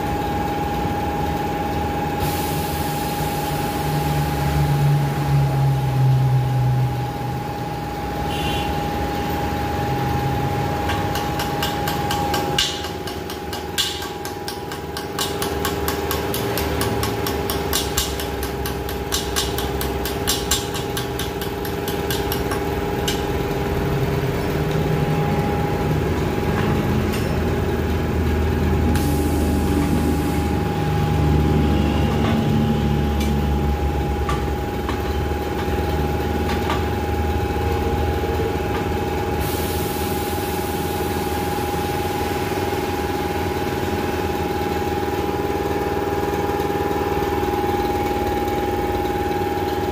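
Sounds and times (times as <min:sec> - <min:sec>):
workshop machinery hum: 0:00.0 - 0:49.9.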